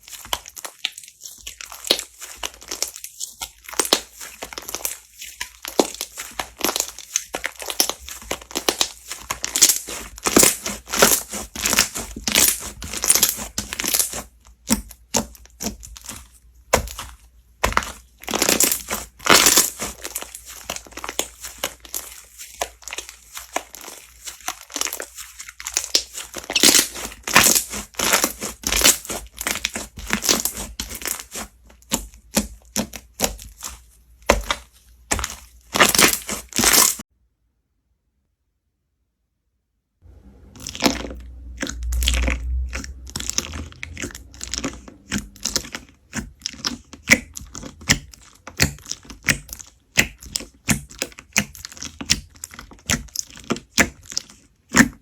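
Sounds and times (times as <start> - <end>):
slime squeezed by hand crackling: 0.0 - 37.0, 40.4 - 55.0.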